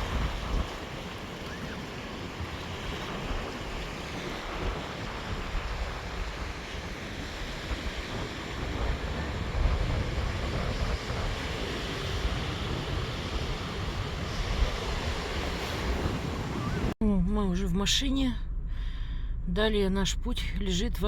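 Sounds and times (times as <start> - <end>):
sea surf breaking: 0.0 - 17.0
wind buffeting microphone: 0.0 - 17.0.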